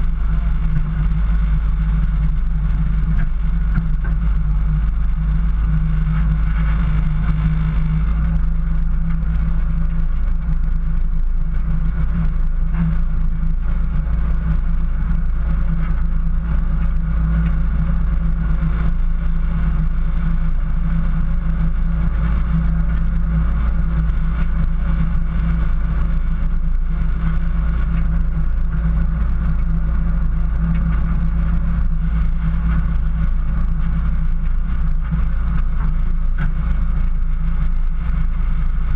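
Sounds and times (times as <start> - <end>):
engine droning steadily: 0.0 - 38.9.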